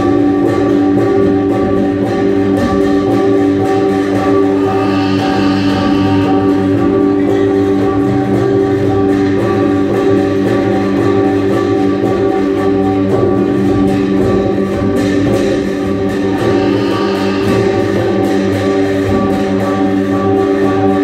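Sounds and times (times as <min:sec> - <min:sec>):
light percussion beat: 0:00.0 - 0:21.0
steady held tones: 0:03.0 - 0:20.8.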